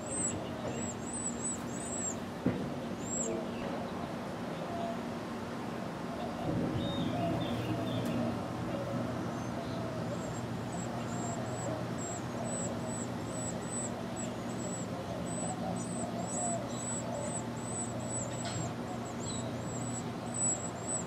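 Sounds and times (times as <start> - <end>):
nestlings peeping: 0.0 - 5.1, 6.2 - 21.0.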